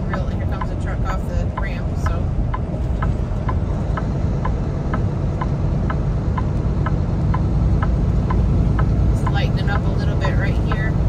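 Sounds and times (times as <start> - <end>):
light repeating tick: 0.0 - 11.0
truck engine rumble: 0.0 - 11.0.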